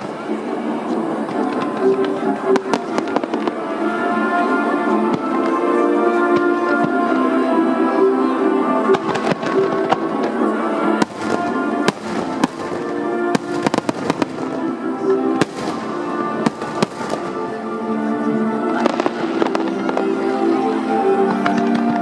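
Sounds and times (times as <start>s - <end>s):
fireworks bangs and crackles: 0.0s - 3.9s, 4.9s - 7.1s, 8.8s - 17.5s, 18.6s - 22.0s
music with long held notes: 0.0s - 22.0s.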